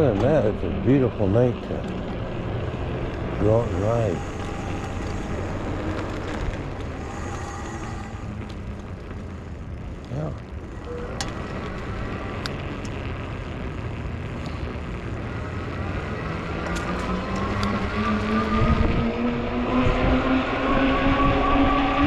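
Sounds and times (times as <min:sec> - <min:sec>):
wind noise on microphone: 0:00.0 - 0:22.0
electric motor whine: 0:00.9 - 0:09.7, 0:10.6 - 0:21.7.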